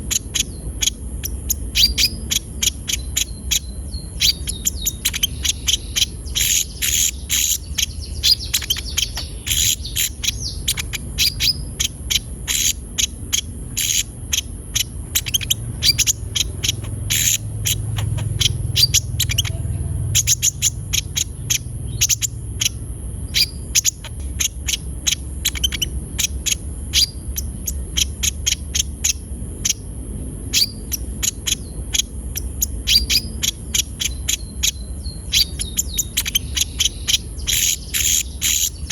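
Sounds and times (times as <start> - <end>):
bird singing rapid high notes: 0.0 - 38.9.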